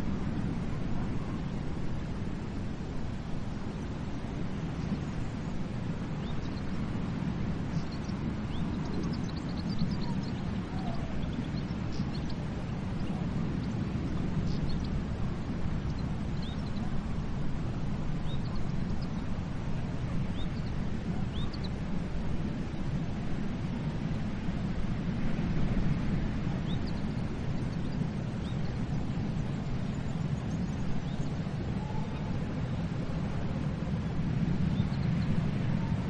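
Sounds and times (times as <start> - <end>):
ocean surf rumble: 0.0 - 36.0
wind: 0.0 - 36.0.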